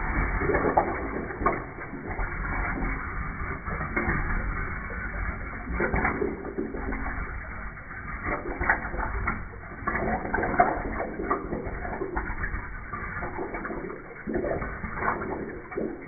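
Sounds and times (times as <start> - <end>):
toilet water swirling and gurgling: 0.0 - 16.0.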